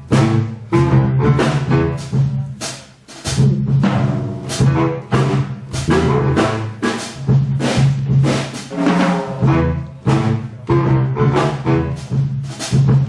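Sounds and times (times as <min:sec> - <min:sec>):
big band jazz orchestra: 0:00.0 - 0:13.0
drum and cymbal hits: 0:00.0 - 0:13.0.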